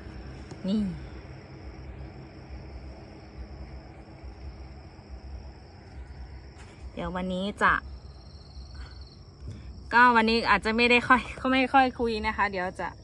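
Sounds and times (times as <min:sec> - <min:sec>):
crickets trilling: 0:00.0 - 0:13.0
low background rumble: 0:00.0 - 0:13.0.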